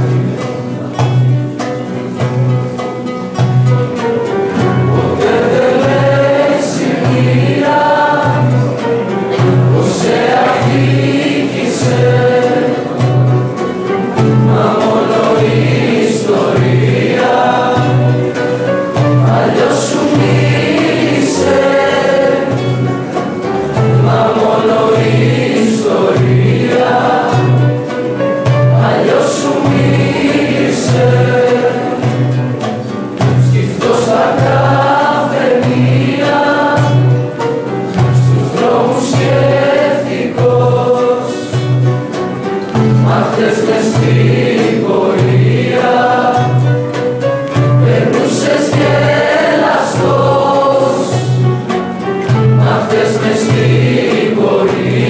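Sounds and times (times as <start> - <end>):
acoustic guitar: 0.0 - 55.0
group singing: 0.0 - 55.0.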